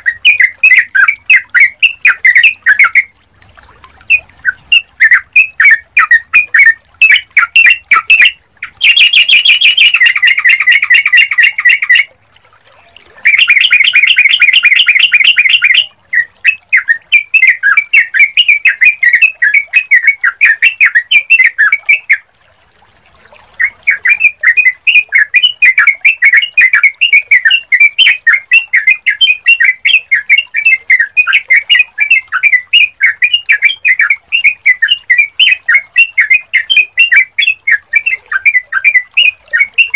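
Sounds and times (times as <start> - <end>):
bird chirping and chattering: 0.0 - 3.1, 4.1 - 12.1, 12.9 - 22.2, 23.6 - 39.9.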